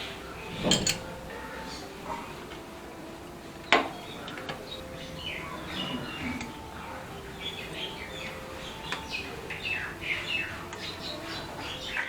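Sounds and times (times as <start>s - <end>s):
hand tools clinking on metal: 0.0s - 12.0s.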